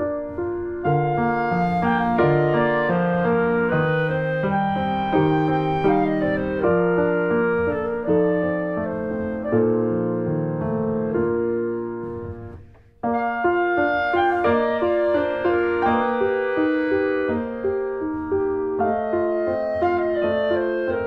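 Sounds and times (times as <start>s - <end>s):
piano music with held notes: 0.0s - 21.0s.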